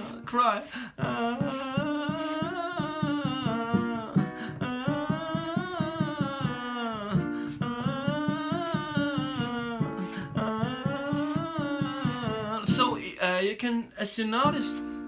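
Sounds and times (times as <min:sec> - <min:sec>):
man singing scale exercise: 0:00.0 - 0:15.0.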